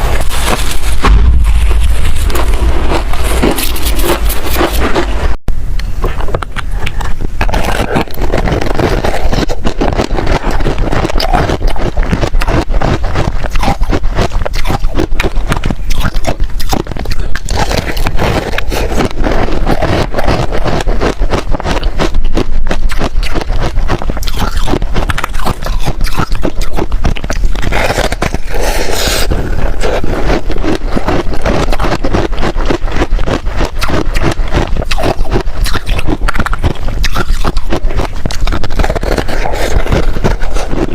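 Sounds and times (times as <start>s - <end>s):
crunching ice: 0.0s - 5.3s, 6.2s - 40.9s.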